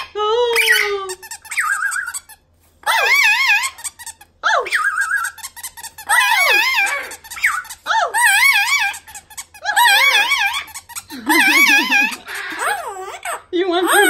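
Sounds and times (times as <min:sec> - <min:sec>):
squeaky toy squeaks: 0:00.0 - 0:14.0.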